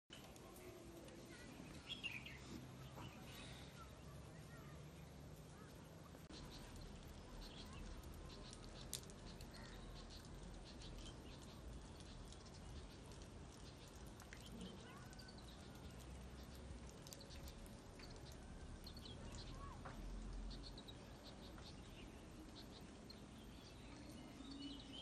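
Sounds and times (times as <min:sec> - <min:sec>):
faint birds chirping: 0:00.1 - 0:25.0.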